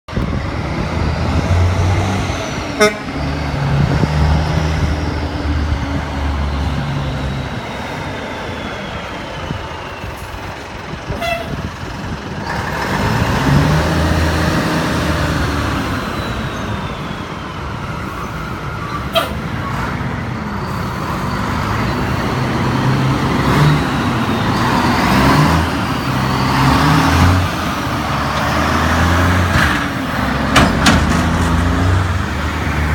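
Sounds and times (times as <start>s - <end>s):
diesel truck engine revving: 0.1s - 32.9s.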